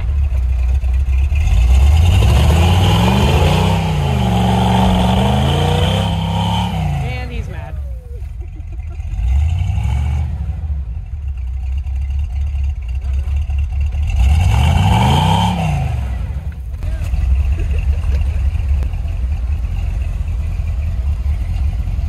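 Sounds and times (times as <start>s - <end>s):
tyres churning through snow: 0.0s - 11.5s, 12.3s - 22.0s
truck engine revving: 0.0s - 22.0s.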